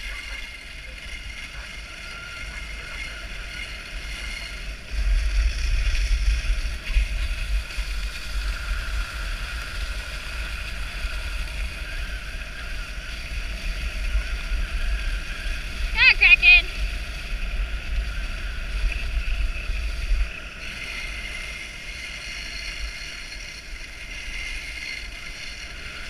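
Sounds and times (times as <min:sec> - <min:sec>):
sled gliding over snow: 0:00.0 - 0:26.0
wind rumbling on microphone: 0:00.0 - 0:26.0.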